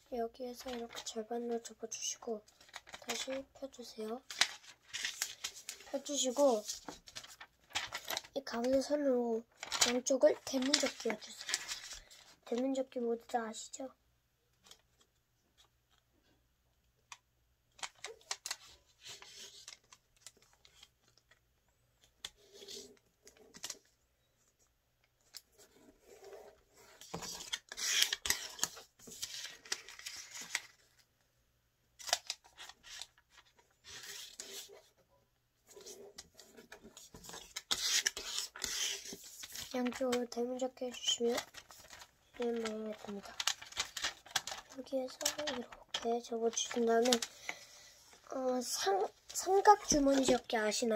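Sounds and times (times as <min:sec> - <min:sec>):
paper rustling and crinkling: 0:00.5 - 0:13.0, 0:17.8 - 0:21.4, 0:22.0 - 0:31.1, 0:32.0 - 0:35.0, 0:35.6 - 0:50.9.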